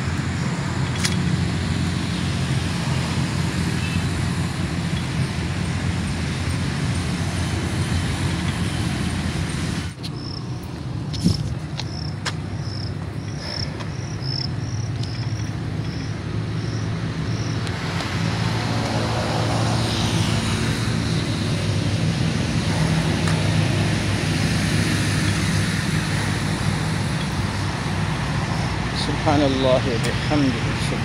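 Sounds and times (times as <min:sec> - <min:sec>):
wind and road rumble: 0:00.0 - 0:31.0.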